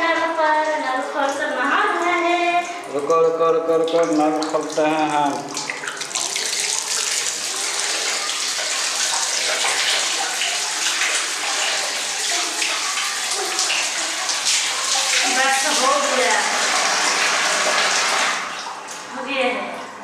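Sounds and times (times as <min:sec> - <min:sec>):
tap water splashing: 0:01.2 - 0:19.1.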